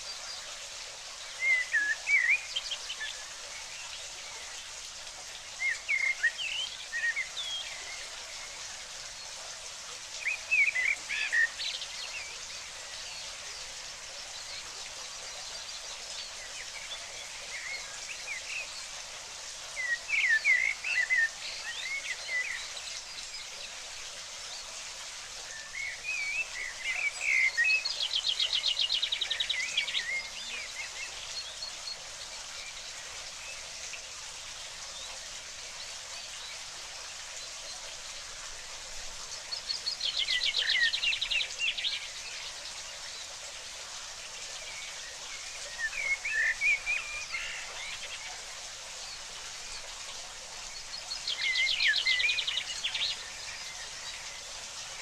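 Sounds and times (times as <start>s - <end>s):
running water hiss: 0.0s - 55.0s.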